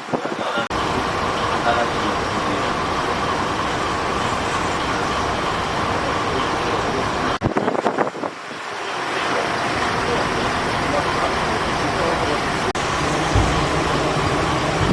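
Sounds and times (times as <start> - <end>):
vehicle running noise: 0.7 - 8.0, 8.6 - 14.9.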